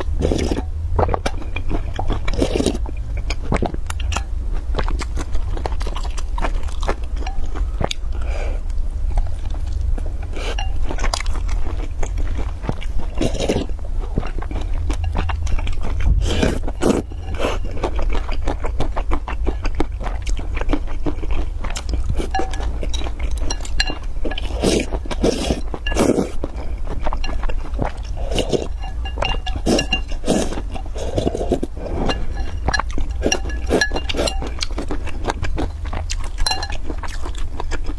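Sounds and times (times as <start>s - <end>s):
crunchy wet chewing: 0.0s - 37.9s
steady low hum: 0.0s - 37.9s.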